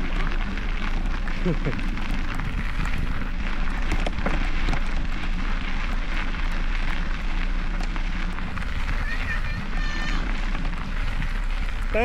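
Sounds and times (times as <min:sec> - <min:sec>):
bike tyre noise on a trail: 0:00.0 - 0:12.0
wind buffeting the microphone: 0:00.0 - 0:12.0.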